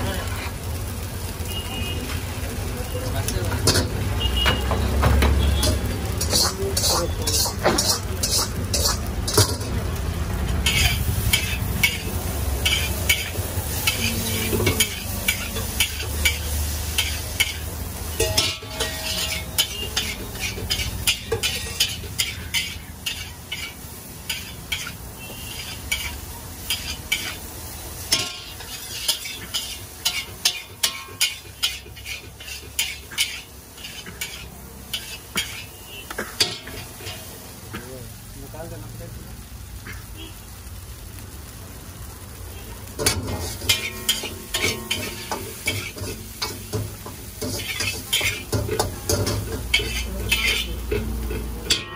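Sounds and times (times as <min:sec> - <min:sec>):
frying sizzle: 0:00.0 - 0:51.9
metal spatula clanking on wok: 0:03.2 - 0:09.9, 0:10.6 - 0:37.9, 0:42.9 - 0:51.9.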